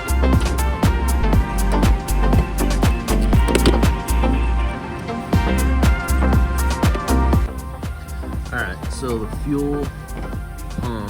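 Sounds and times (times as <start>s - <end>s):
electronic beat music: 0.0s - 4.6s, 5.4s - 11.0s.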